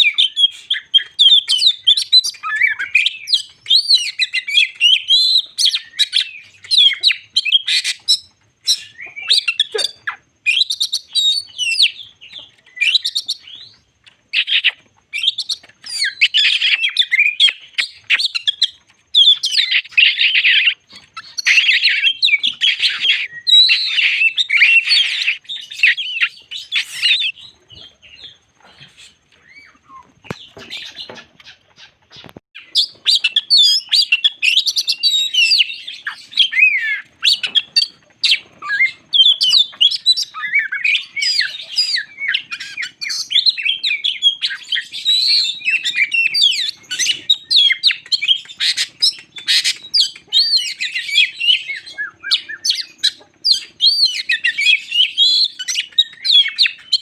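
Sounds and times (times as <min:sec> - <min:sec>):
bird singing whistles and chatter: 0:00.0 - 0:31.2, 0:32.2 - 0:57.0.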